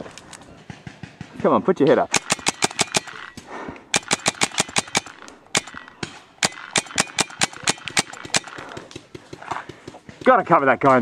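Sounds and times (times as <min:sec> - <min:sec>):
paintball marker firing: 0:00.4 - 0:10.6.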